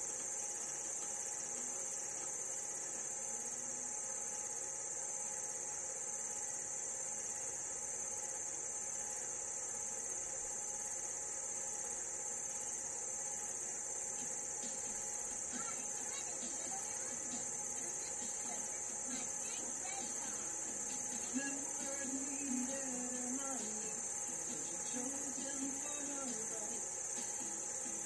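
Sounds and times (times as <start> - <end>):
faint low hum: 0.0 - 28.0
high-pitched electronic hiss: 0.0 - 28.0.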